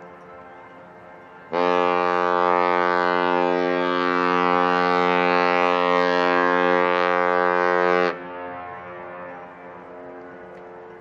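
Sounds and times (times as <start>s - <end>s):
ship's horn blast: 0.1s - 10.9s.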